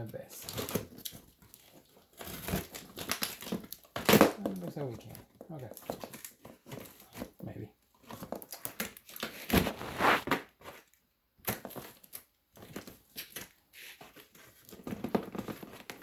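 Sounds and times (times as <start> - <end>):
cardboard and plastic packaging crinkling: 0.0 - 16.0.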